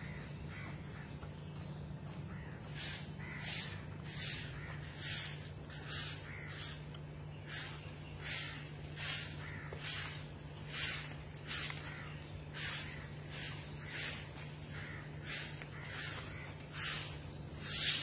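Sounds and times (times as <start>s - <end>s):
broom sweeping concrete: 2.6s - 18.0s.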